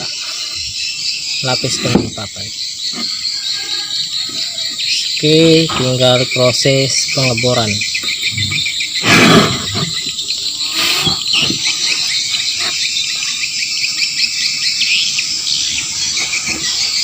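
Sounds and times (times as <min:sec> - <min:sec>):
birds chirping: 0:00.0 - 0:17.0
insects calling: 0:00.0 - 0:17.0.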